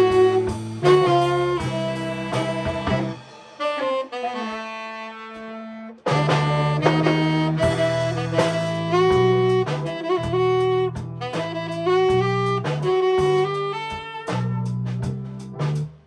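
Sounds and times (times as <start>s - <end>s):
jazz combo playing: 0.0s - 16.0s.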